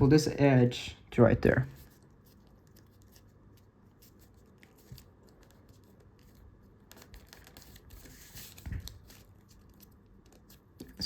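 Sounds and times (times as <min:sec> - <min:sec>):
paper rustling and crinkling: 0:01.8 - 0:11.0.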